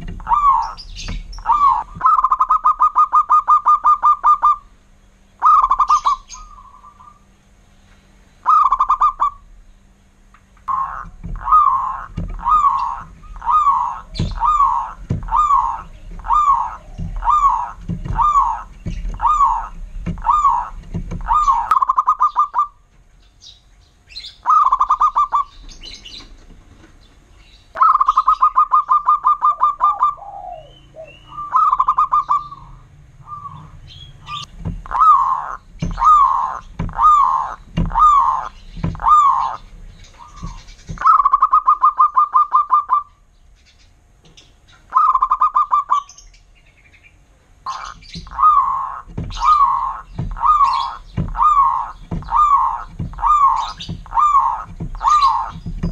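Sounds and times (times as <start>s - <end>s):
dove cooing: 0.0s - 4.8s, 5.4s - 7.4s, 8.4s - 9.5s, 10.6s - 22.9s, 24.2s - 26.5s, 27.7s - 43.2s, 44.8s - 46.2s, 47.6s - 55.9s.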